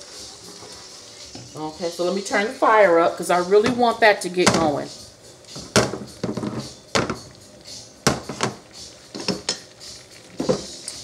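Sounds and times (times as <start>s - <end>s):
butter sizzling: 0.0s - 11.0s.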